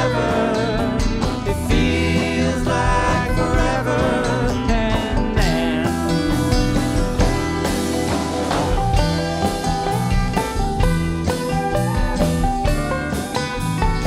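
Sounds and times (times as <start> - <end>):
drum kit steady beat: 0.0 - 14.0
plucked guitar: 0.0 - 14.0.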